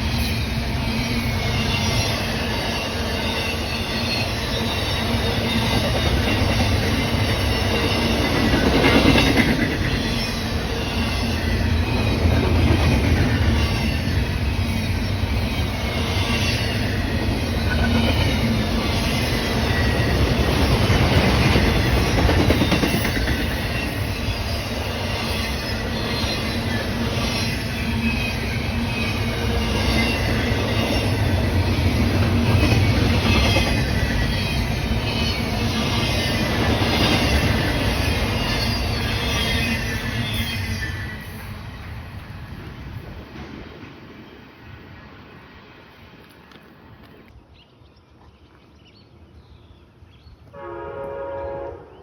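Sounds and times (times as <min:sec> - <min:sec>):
train cars rumbling past: 0:00.0 - 0:47.3.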